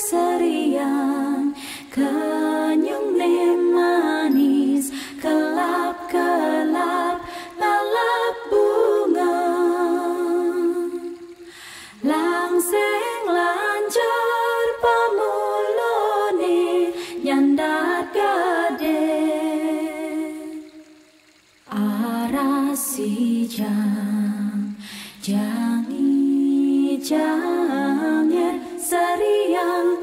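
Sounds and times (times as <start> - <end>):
voices singing and humming: 0.0 - 30.0.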